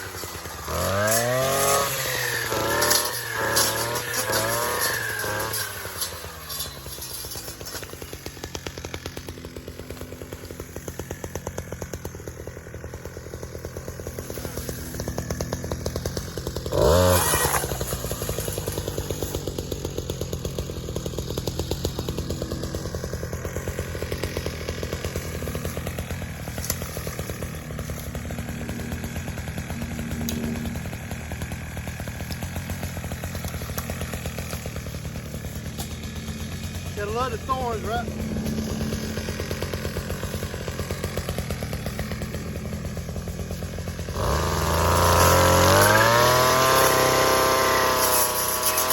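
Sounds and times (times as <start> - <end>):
string trimmer cutting brush: 0.0 - 48.9.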